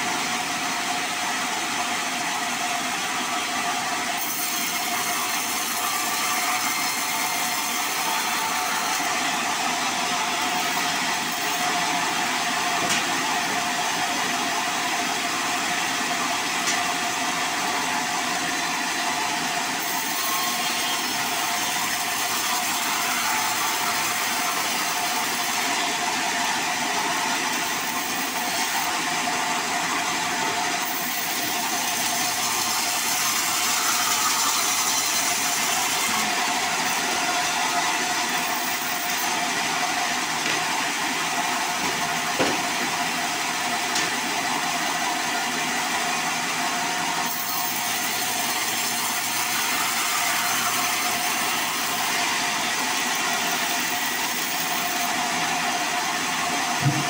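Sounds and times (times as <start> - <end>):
band saw sawing log: 4.1 - 57.0.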